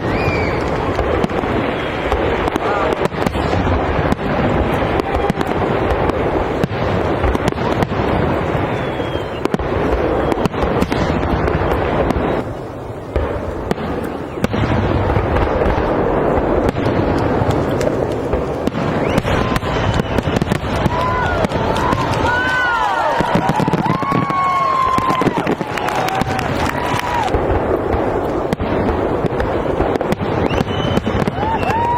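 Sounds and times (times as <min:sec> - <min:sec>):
fireworks booming and crackling: 0:00.0 - 0:31.9.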